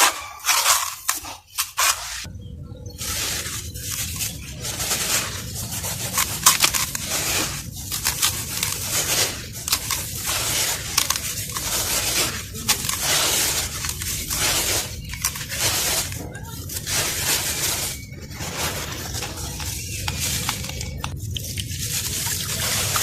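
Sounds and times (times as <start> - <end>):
chalk crumbling gritty crackle: 0.0 - 2.3, 2.9 - 23.0.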